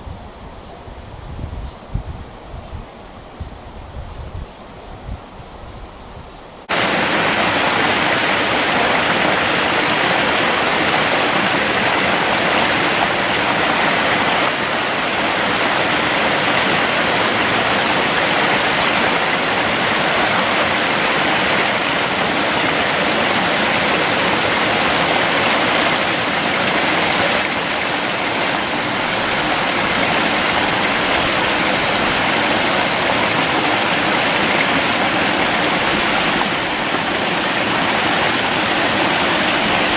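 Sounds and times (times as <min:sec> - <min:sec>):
creek water rushing and splashing: 0:06.6 - 0:39.9.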